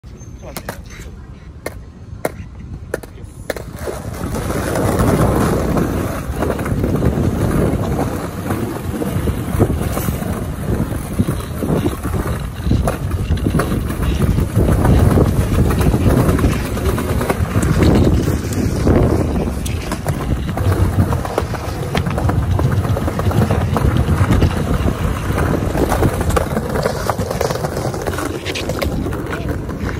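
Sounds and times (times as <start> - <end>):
skateboard wheels rolling on paving: 0.1 - 29.9
wheels clacking on slab joints: 2.2 - 29.9.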